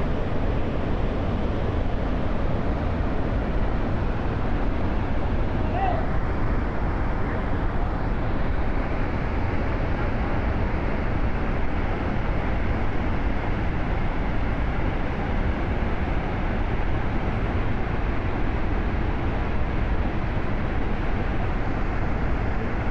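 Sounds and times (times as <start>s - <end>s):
large waterfall roaring: 0.0s - 22.9s.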